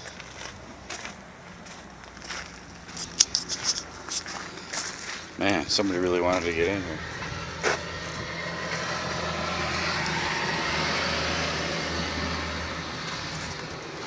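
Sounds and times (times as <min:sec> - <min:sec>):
vehicle passing: 0:00.0 - 0:14.0.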